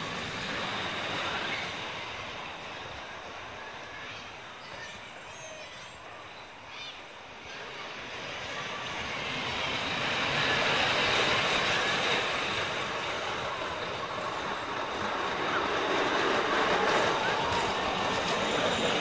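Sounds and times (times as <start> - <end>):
roller coaster wheels rumbling: 0.0 - 5.6, 7.6 - 19.0.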